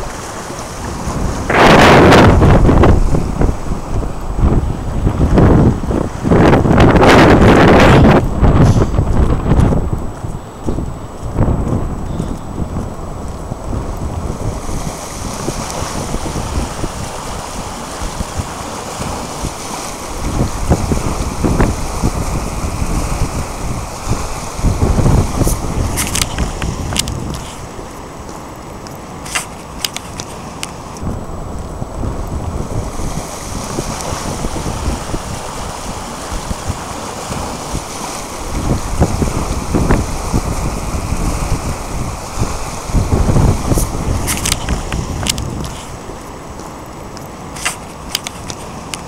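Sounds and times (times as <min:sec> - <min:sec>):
sea current rushing along wall: 0:00.0 - 0:49.0
wind buffeting microphone: 0:00.0 - 0:49.0.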